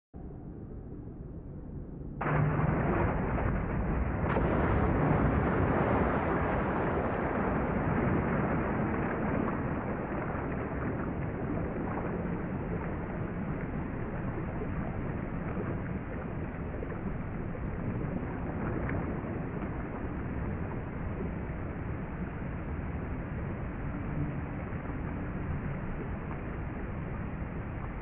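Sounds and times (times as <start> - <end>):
underwater churning and bubbles: 2.2 - 28.0.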